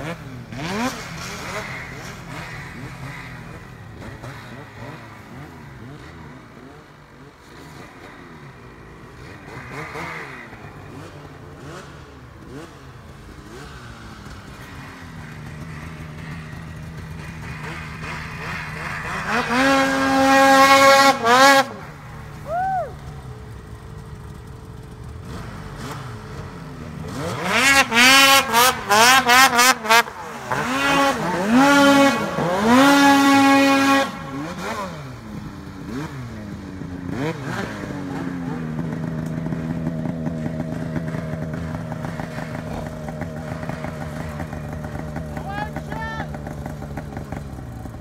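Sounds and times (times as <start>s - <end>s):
snowmobile engine running steadily: 0.0s - 37.1s, 37.7s - 48.0s
snowmobile engine revving: 0.0s - 48.0s.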